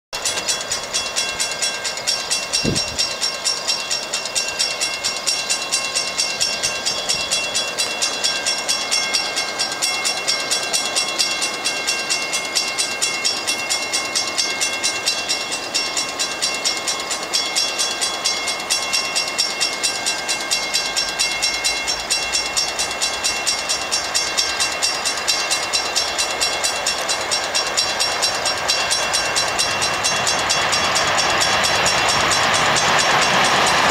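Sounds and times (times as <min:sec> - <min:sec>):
railroad crossing bell ringing: 0:00.2 - 0:33.9
train approaching: 0:00.2 - 0:33.9.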